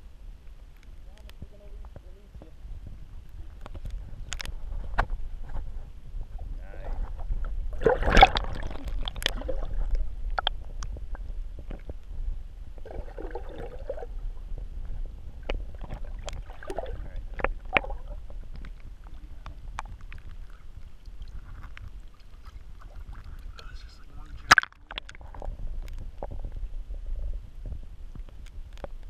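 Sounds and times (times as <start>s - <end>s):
muffled underwater rumble: 0.0s - 29.0s
small underwater clicks and knocks: 0.4s - 29.0s
water splash and bubbling: 2.6s - 27.1s.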